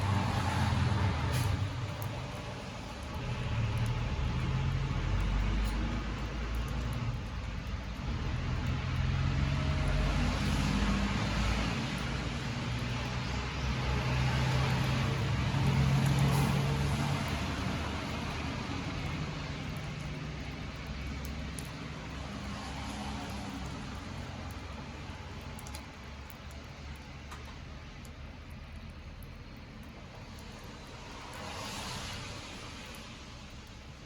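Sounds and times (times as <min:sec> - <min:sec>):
road noise: 0:00.0 - 0:34.0
vehicle engine hum passing: 0:00.0 - 0:34.0.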